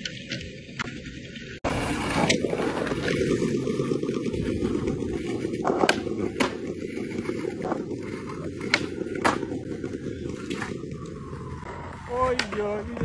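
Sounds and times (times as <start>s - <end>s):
skateboard clacks: 0.0s - 11.4s, 12.0s - 13.0s
skateboard wheels rolling on paving: 0.0s - 13.0s.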